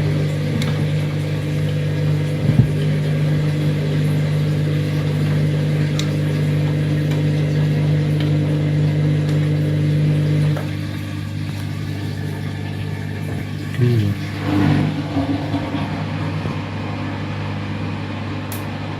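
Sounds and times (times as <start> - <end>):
washing machine motor humming: 0.0 - 18.9.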